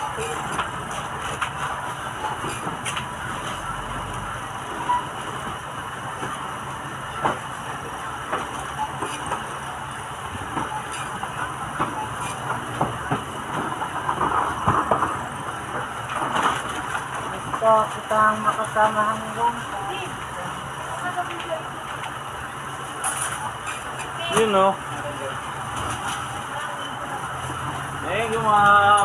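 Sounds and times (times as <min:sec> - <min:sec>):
background hum and murmur: 0:00.0 - 0:29.0.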